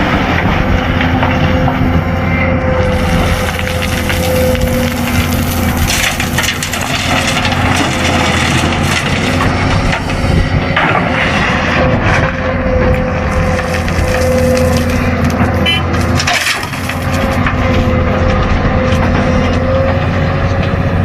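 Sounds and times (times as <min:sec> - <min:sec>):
bucket scraping and crunching debris: 0:02.7 - 0:19.7.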